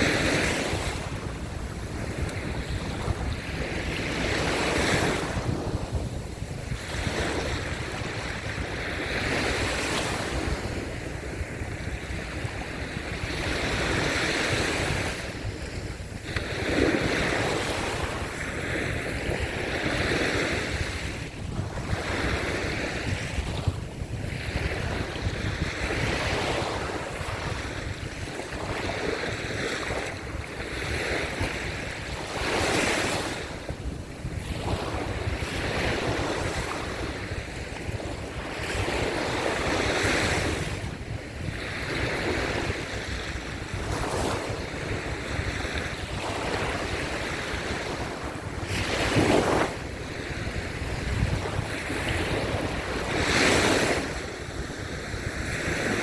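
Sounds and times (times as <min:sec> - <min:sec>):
small waves breaking on beach: 0:00.0 - 0:56.0
wind rumbling on microphone: 0:00.0 - 0:56.0.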